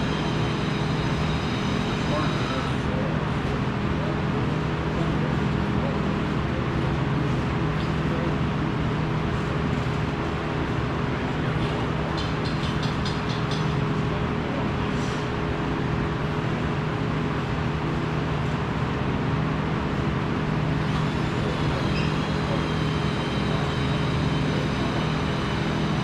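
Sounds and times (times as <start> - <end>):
mechanical drone with low hum: 0.0 - 26.0.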